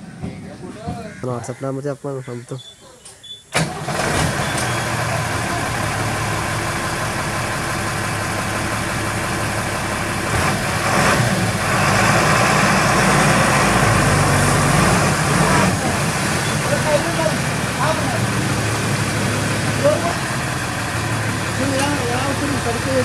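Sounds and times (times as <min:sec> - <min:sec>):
truck diesel engine revving: 0:03.5 - 0:23.0.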